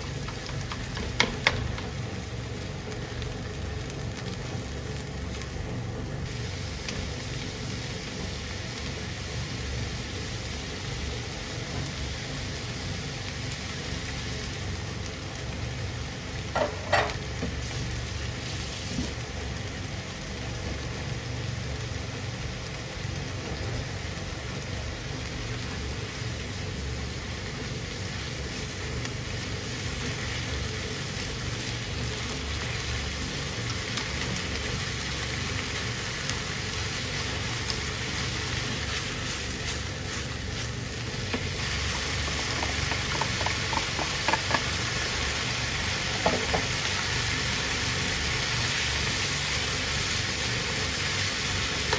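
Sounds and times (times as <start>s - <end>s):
food sizzling in a frying pan: 0.0s - 51.9s.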